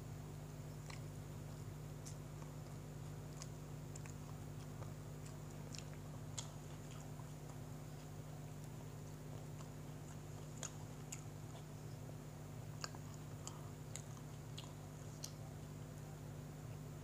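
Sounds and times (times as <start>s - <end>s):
steady low hum: 0.0s - 17.0s
chewing with wet mouth clicks: 0.6s - 16.3s.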